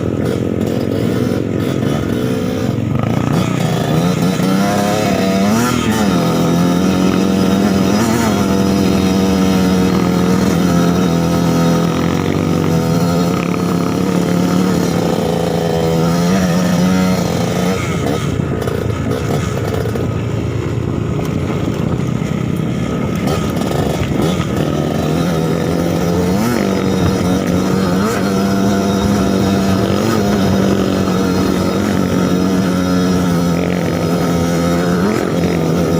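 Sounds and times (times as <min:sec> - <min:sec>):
two-stroke motorcycle engine running: 0:00.0 - 0:35.9.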